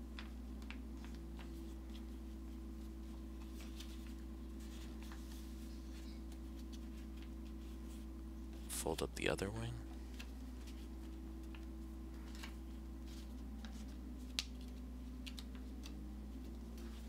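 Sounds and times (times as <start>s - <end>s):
paper rustling and folding: 0.0s - 8.8s, 9.8s - 17.0s
steady low hum: 0.0s - 17.0s.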